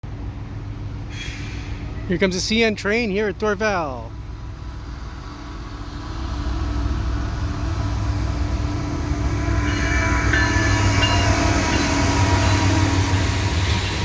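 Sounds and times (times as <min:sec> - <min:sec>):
locomotive engine rumbling: 0:00.0 - 0:14.0
wheel and rail noise: 0:00.0 - 0:14.0.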